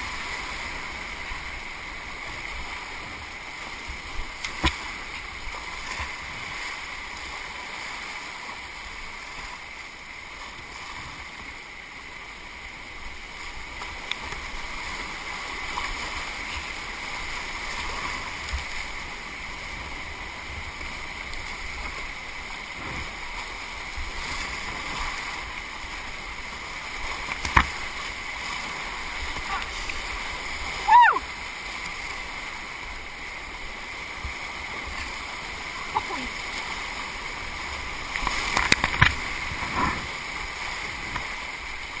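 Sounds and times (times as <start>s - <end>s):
whitewater rushing: 0.0s - 42.0s.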